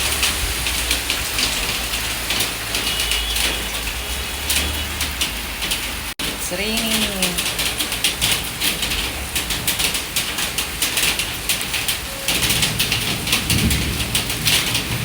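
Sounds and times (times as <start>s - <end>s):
heavy rain splattering: 0.0s - 15.0s.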